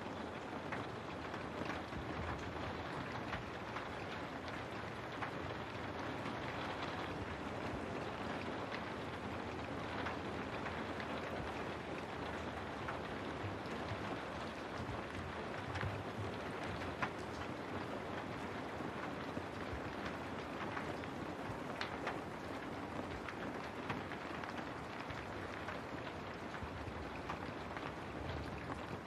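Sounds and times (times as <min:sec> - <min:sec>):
steady rain hiss: 0:00.0 - 0:29.0
rain drop ticks: 0:00.1 - 0:29.0.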